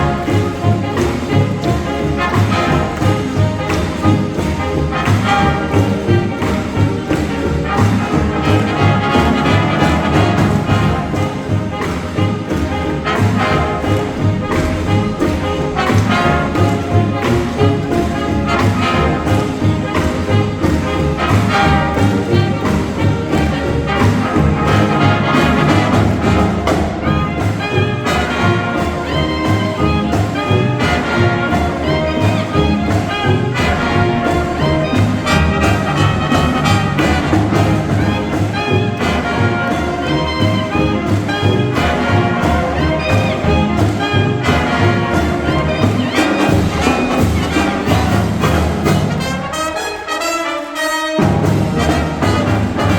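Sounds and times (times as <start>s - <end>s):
marching band brass: 0.0s - 52.9s
steady drum beat: 0.0s - 52.9s.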